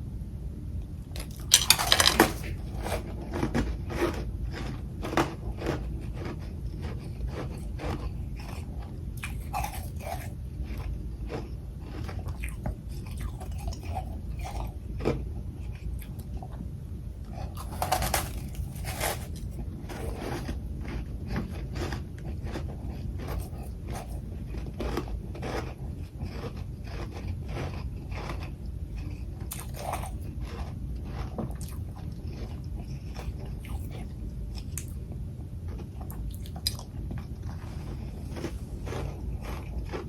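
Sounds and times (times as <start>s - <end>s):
chewing ice crunches: 1.2s - 16.4s, 17.3s - 35.0s, 35.6s - 40.0s.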